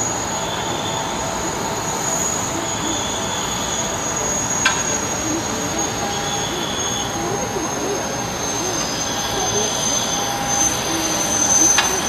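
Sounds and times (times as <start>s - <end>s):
thin constant high tone: 0.0s - 12.0s.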